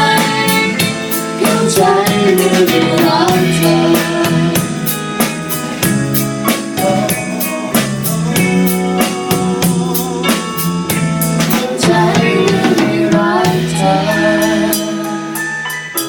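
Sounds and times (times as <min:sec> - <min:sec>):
drum kit beat: 0:00.0 - 0:16.0
pop band music: 0:00.0 - 0:16.0.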